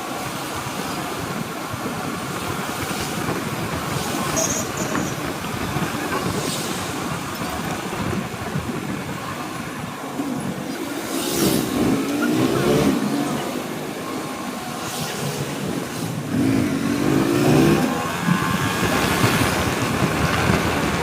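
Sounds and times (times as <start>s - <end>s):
road noise: 0.0s - 21.0s
wind rushing: 0.0s - 21.0s.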